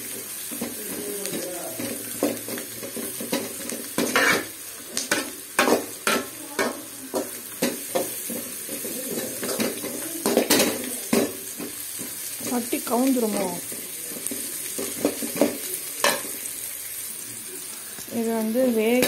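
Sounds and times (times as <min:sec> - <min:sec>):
vegetables sizzling in a pan: 0:00.0 - 0:19.0
metal spoon scraping a pan: 0:00.1 - 0:16.4.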